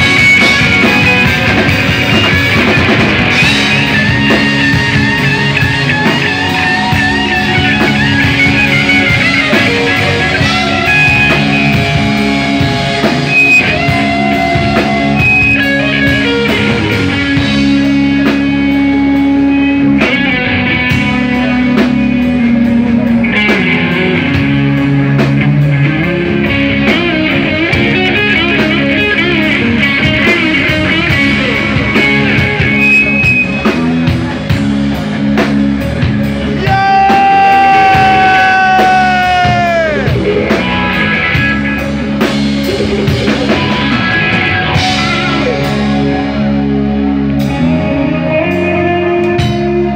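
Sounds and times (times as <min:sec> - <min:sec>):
drum kit: 0:00.0 - 0:49.9
electric guitar: 0:00.0 - 0:49.9.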